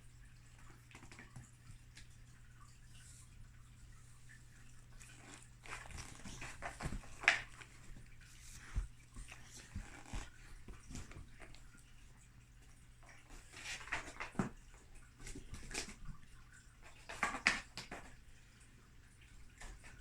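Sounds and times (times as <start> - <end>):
pets scratching and rustling: 0.4 - 18.5.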